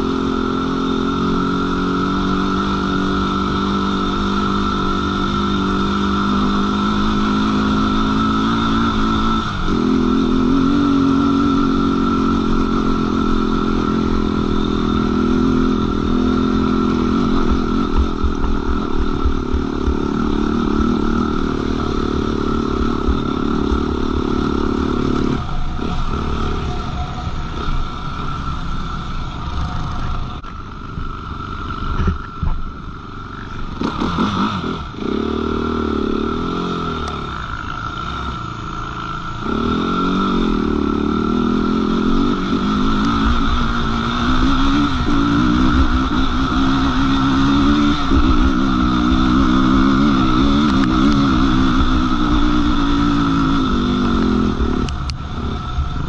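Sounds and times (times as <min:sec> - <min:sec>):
quad bike engine under throttle: 0:00.0 - 0:56.0.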